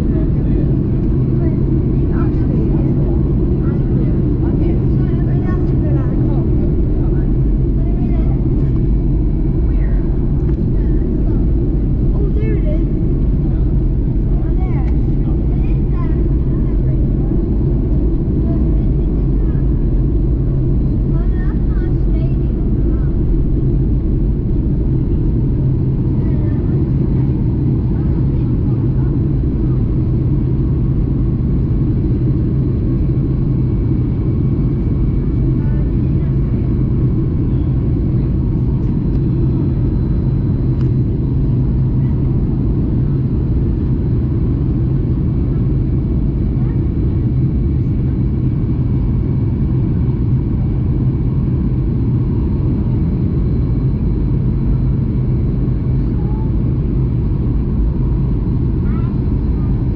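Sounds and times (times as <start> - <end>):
airplane cabin engine rumble: 0.0 - 59.9
steady low hum: 0.0 - 59.9.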